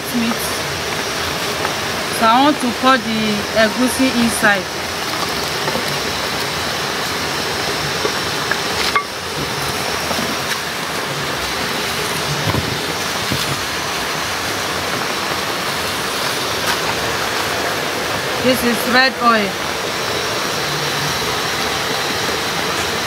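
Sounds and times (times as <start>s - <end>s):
pot boiling hard: 0.0s - 23.0s.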